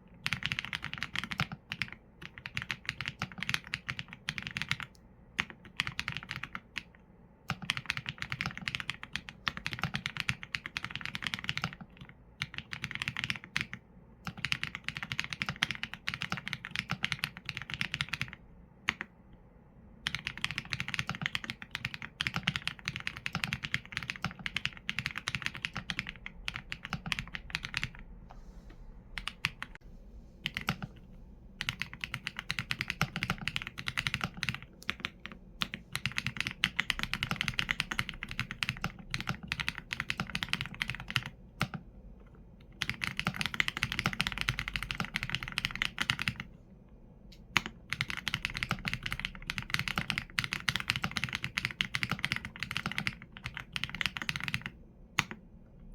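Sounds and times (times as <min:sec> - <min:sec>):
mechanical keyboard typing: 0:00.2 - 0:19.1, 0:20.0 - 0:28.0, 0:29.2 - 0:29.8, 0:30.5 - 0:31.0, 0:31.6 - 0:41.8, 0:42.8 - 0:46.5, 0:47.4 - 0:55.4.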